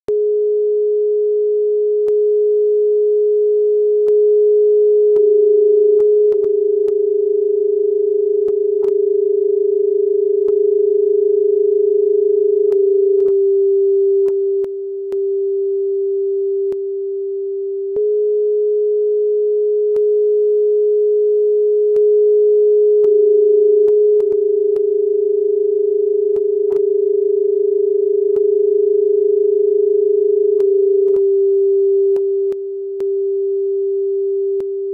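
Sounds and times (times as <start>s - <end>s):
electronic sine tone drone: 0.1s - 34.9s.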